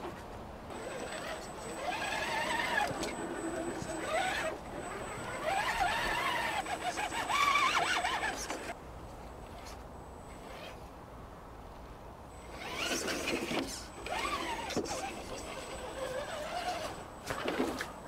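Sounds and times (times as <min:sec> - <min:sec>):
electric motor and gears whining: 0:00.7 - 0:10.9, 0:12.3 - 0:18.0.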